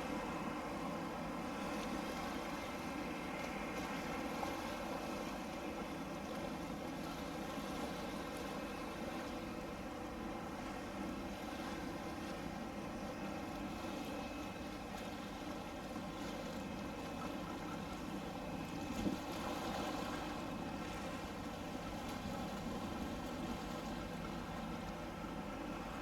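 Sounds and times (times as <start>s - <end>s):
water noise: 0.0s - 26.0s.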